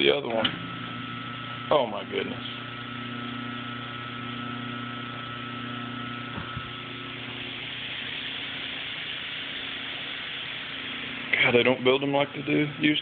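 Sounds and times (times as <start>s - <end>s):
electric motors humming: 0.0s - 13.0s.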